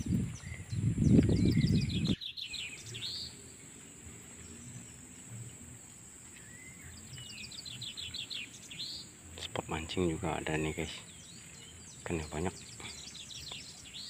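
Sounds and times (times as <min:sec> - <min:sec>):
bird singing: 0:00.0 - 0:14.0
insects droning: 0:00.0 - 0:14.0.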